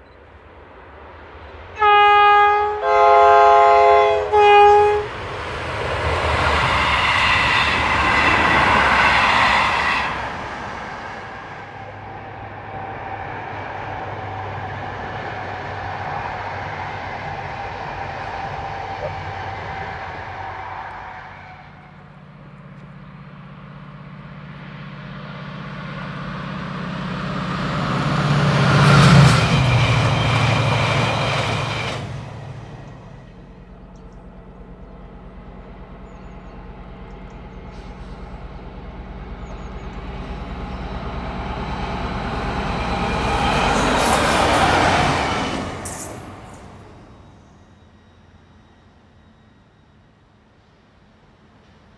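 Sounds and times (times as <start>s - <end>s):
diesel train engine drone: 0.0s - 51.9s
rail noise: 0.0s - 51.9s.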